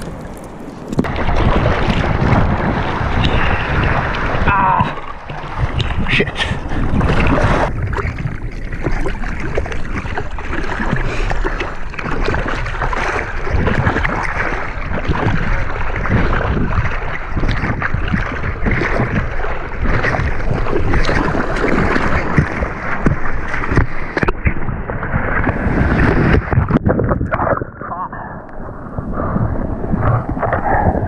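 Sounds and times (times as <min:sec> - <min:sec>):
water splashing against surfboard: 0:00.0 - 0:27.9
rush of water: 0:00.0 - 0:31.0.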